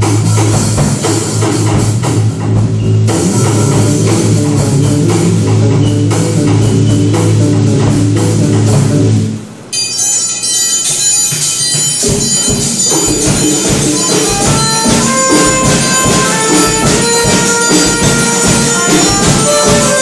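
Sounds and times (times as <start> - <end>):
live rock band playing: 0.0 - 9.7, 10.9 - 20.0.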